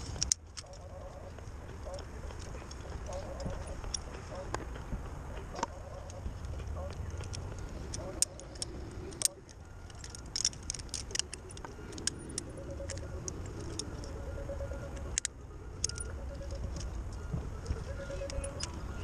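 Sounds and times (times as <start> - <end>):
metal carabiners clinking: 0.0 - 4.6, 5.5 - 19.0.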